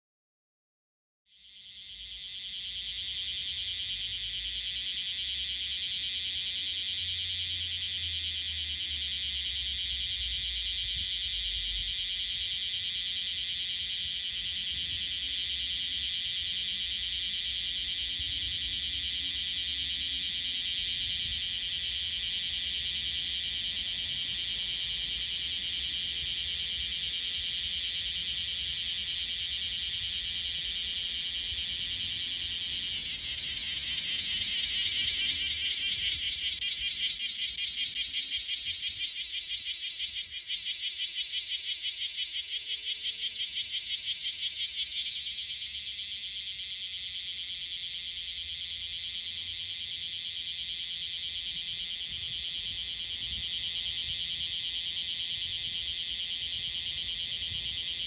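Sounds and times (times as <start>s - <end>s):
cicada buzzing: 1.4s - 58.0s.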